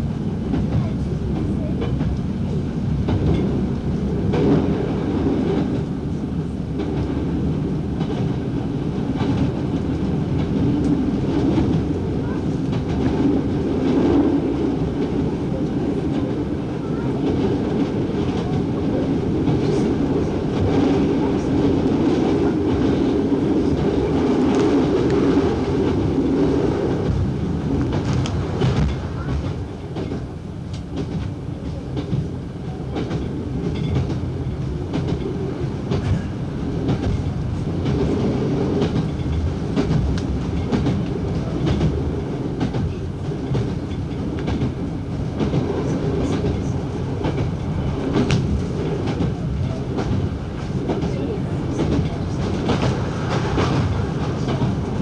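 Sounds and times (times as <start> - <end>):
train engine drone: 0.0 - 55.0.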